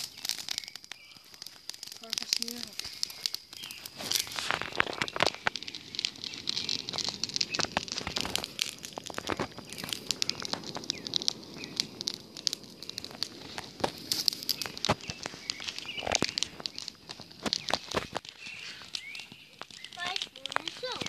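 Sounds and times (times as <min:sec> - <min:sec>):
twig fire crackling and popping: 0:00.0 - 0:21.0.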